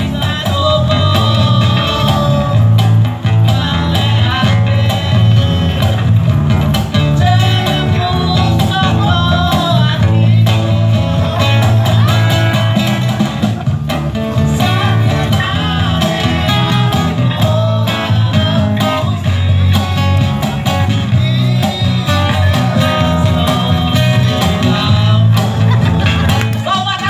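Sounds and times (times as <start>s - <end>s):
man singing into a microphone: 0.0s - 6.1s, 6.9s - 12.9s, 14.4s - 26.0s, 26.6s - 27.0s
acoustic guitar strumming: 0.0s - 27.0s
cajon beat: 0.0s - 27.0s.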